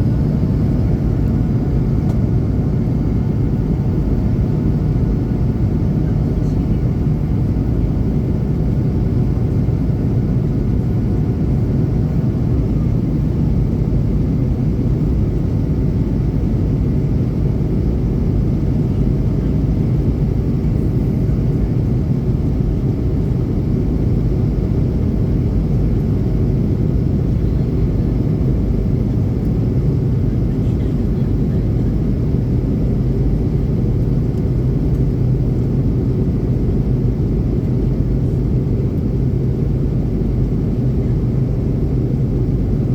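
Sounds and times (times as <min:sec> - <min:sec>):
airplane engine rumble in cabin: 0:00.0 - 0:42.9.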